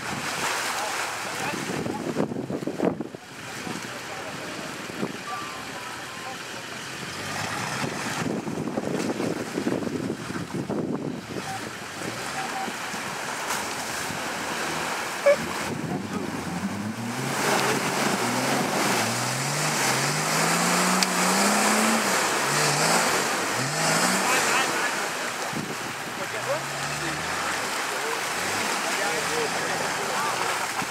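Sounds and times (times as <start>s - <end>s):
off-road vehicle engine revving: 0.0s - 30.9s
water splashing: 0.0s - 30.9s.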